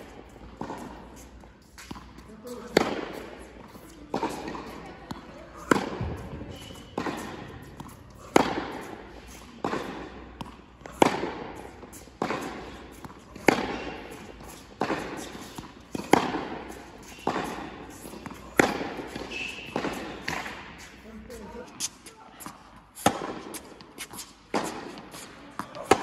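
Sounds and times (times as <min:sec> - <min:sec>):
tennis ball struck by racket: 0:00.0 - 0:20.8, 0:23.0 - 0:26.0
tennis ball bouncing on court: 0:00.0 - 0:20.9, 0:22.4 - 0:26.0.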